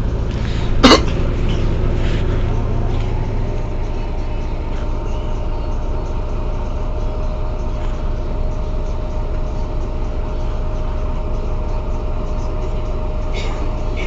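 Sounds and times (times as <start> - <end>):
bus engine rumbling with whine: 0.0 - 14.0.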